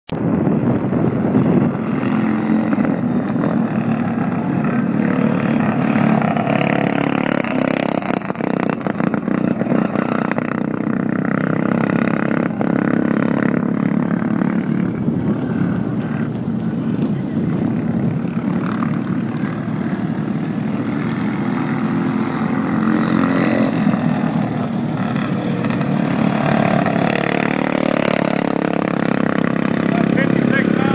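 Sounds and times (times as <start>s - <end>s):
lawnmower engine running hard: 0.3s - 30.9s.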